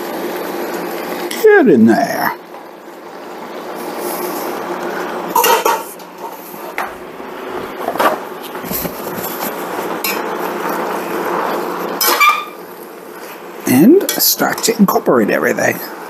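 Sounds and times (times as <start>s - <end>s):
food sizzling in a pan: 0.0s - 14.7s.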